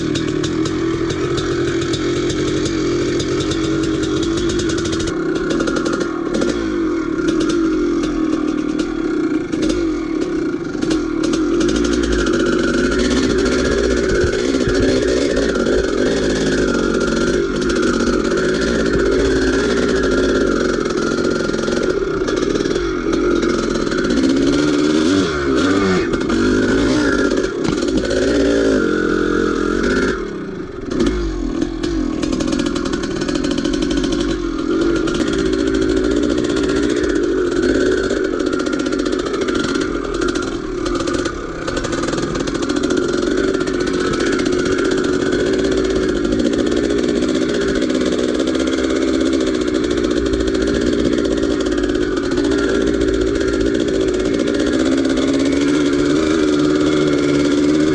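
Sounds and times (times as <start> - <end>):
two-stroke engine revving: 0.0 - 57.9.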